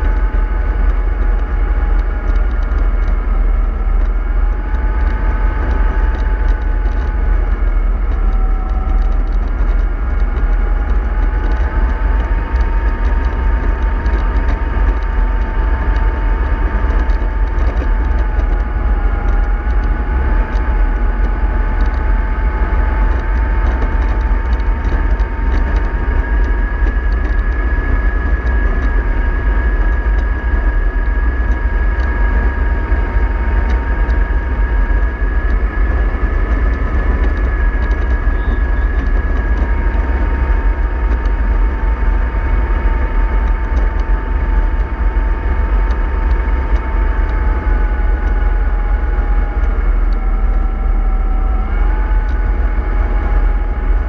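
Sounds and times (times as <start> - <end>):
bus engine rumbling: 0.0 - 54.0
whine drifting in pitch: 0.0 - 54.0.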